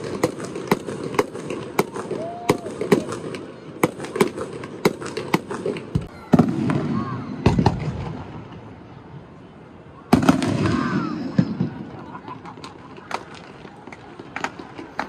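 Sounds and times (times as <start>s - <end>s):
firework shells booming: 0.0s - 8.8s, 10.1s - 13.7s
fireworks crackling bangs: 0.0s - 9.1s, 10.1s - 15.0s.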